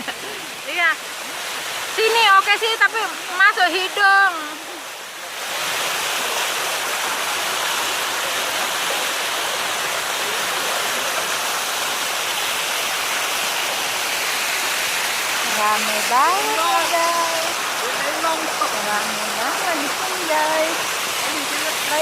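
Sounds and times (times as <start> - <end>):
waterfall pouring and splashing: 0.0 - 22.0.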